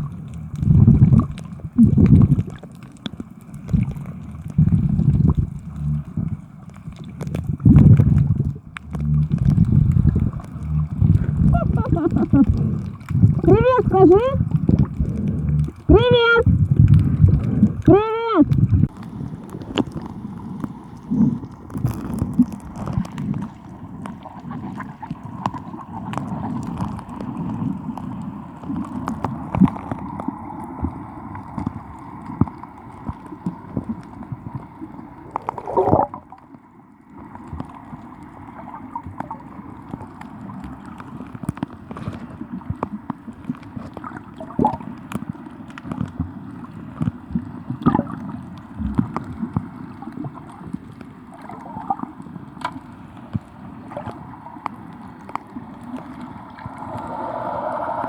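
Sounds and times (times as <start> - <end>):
muffled water sloshing: 0.0 - 58.0.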